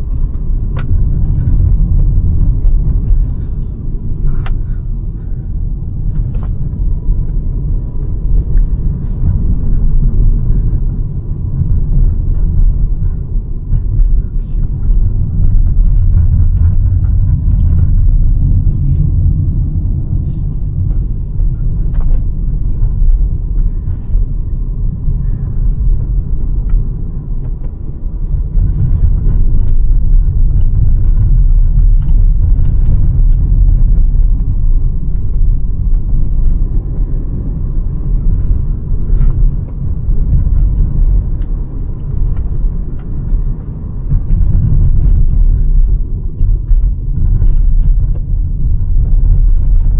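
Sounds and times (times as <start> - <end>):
car engine and road rumble: 0.0 - 49.9.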